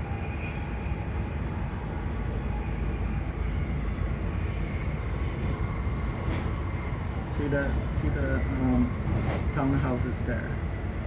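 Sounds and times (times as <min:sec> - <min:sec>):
train running rumble: 0:01.1 - 0:11.0.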